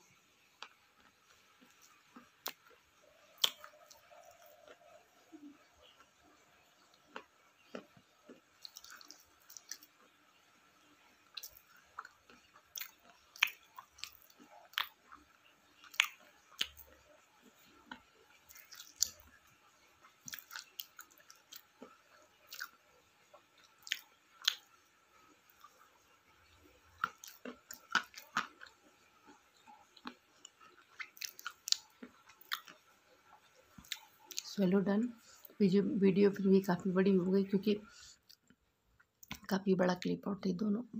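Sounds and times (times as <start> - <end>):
person chewing and crunching: 0.6 - 10.4, 11.0 - 25.9, 26.7 - 34.5, 38.2 - 39.5.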